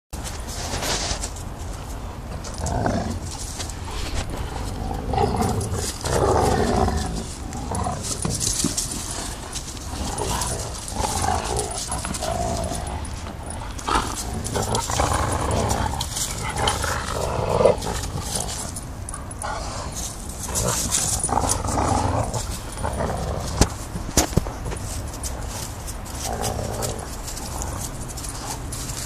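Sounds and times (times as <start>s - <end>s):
dogs play-growling: 0.2s - 29.0s.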